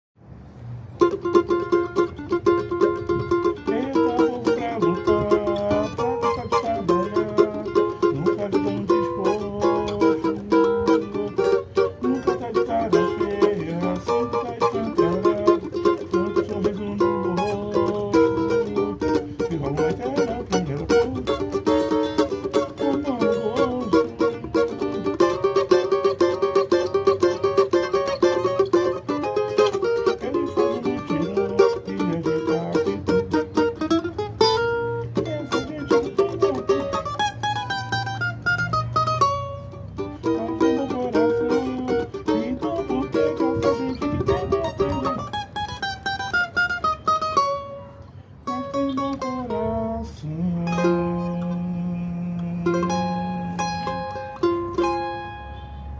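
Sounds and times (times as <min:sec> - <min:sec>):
plucked small guitar melody: 0:01.0 - 0:55.9.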